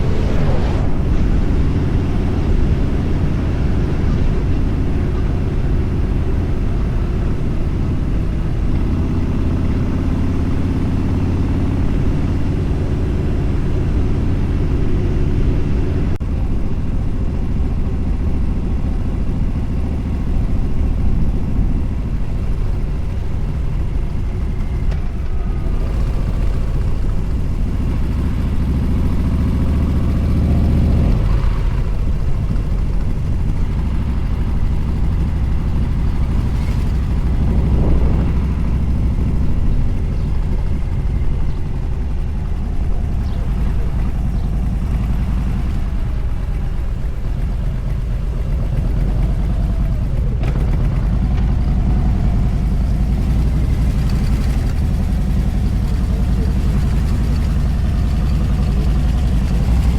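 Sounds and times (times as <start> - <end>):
motorcycle engine: 0.0 - 59.9
wind rush on microphone: 0.0 - 59.9.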